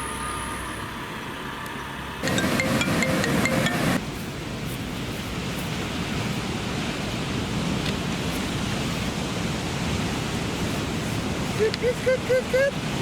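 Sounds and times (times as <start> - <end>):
surf rushing: 2.2 - 13.0
wind at shoreline: 2.2 - 13.0.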